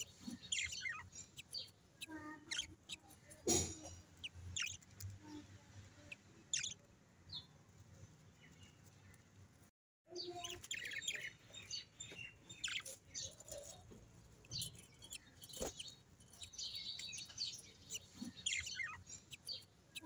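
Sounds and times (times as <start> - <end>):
budgies chirping: 0.0 - 5.4, 6.0 - 7.6, 10.2 - 20.0.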